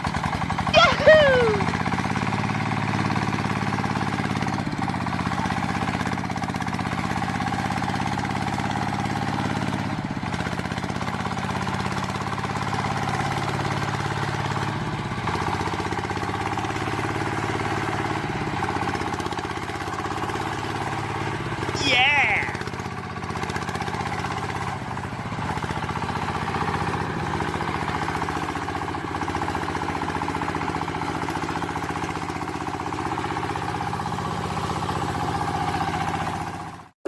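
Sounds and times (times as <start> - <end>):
engine running at low speed: 0.0 - 36.9.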